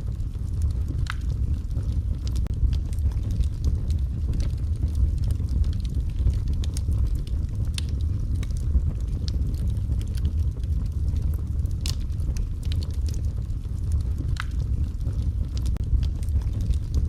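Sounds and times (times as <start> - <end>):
low rumble of flames: 0.0 - 17.0
wood fire pops and snaps: 0.0 - 17.0.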